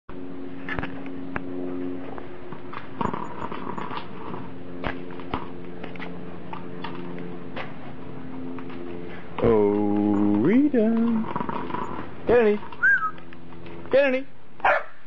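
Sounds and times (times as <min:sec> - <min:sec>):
low hum: 0:00.1 - 0:14.7.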